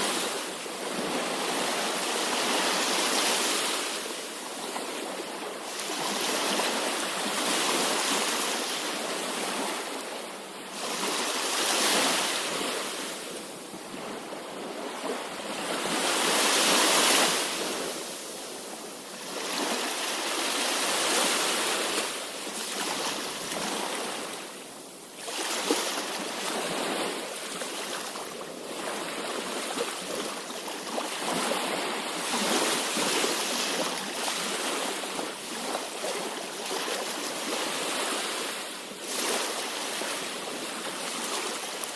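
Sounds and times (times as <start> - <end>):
sea waves breaking on shore: 0.0 - 41.9.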